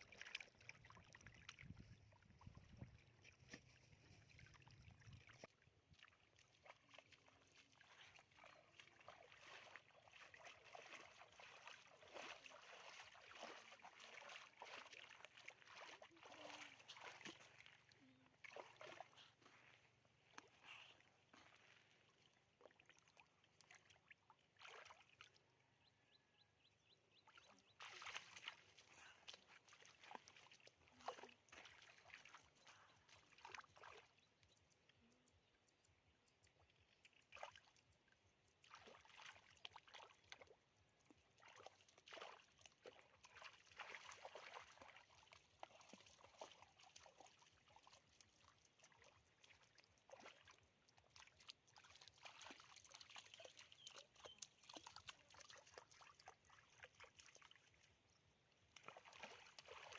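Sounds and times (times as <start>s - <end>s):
shallow water splashing: 0.0s - 25.2s, 27.3s - 34.2s, 36.7s - 59.9s.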